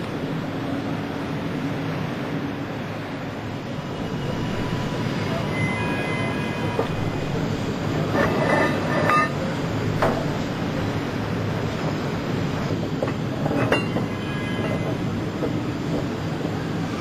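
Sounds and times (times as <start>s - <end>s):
hall hum and rumble: 0.0s - 17.0s.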